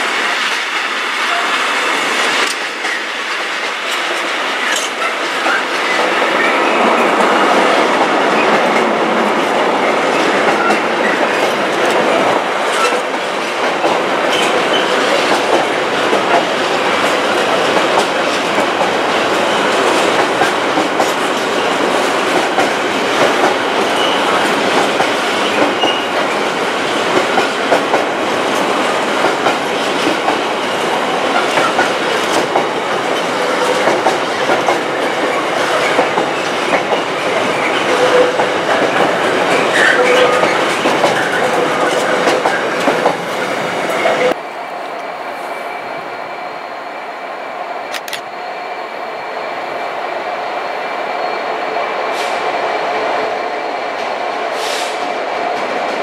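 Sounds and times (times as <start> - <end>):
freight train wagons rumbling: 0.0 - 46.2.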